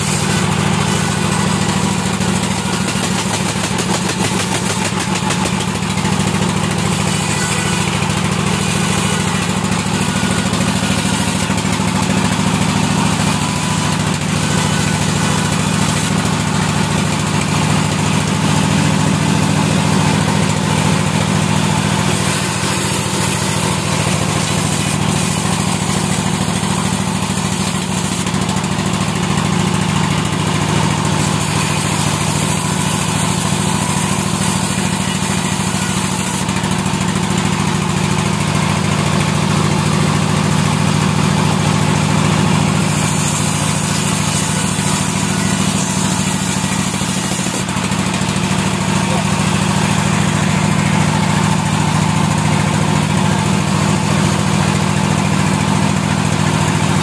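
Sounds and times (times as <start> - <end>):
machine drone: 0.0 - 37.6, 38.3 - 57.0
saw blade cutting wood: 0.0 - 38.5, 40.2 - 57.0.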